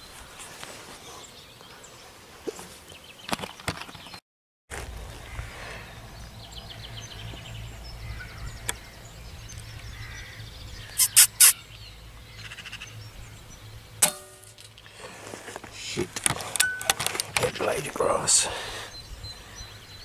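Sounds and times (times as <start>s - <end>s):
birds singing: 0.0s - 2.2s, 2.8s - 4.2s, 5.2s - 20.0s.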